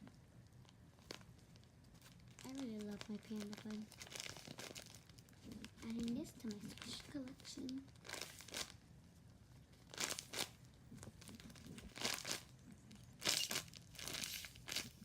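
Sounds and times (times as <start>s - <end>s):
plastic bag crinkling: 0.4s - 8.8s, 9.5s - 15.0s.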